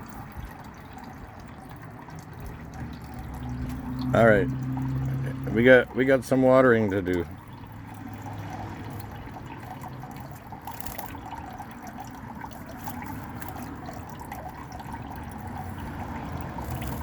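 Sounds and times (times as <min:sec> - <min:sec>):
water pouring onto plants: 0:00.0 - 0:17.0.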